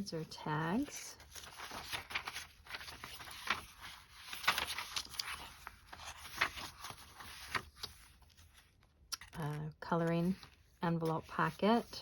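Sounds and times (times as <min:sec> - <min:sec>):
paper and card rustling: 0:00.0 - 0:12.0.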